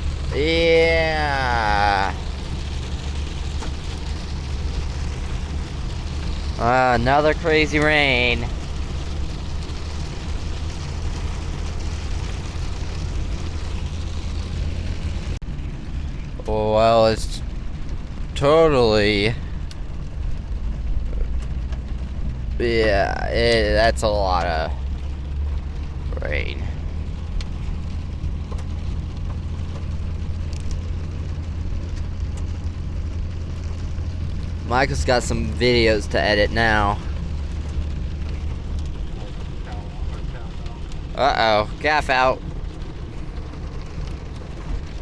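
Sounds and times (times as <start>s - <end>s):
heavy rain on vehicle roof: 0.0s - 45.0s
truck engine and tyres on wet road: 0.0s - 45.0s.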